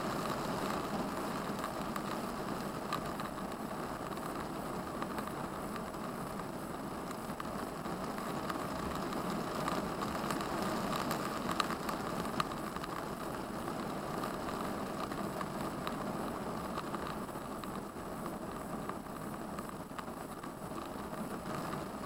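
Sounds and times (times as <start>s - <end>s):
heavy rain on vehicle: 0.0s - 22.0s.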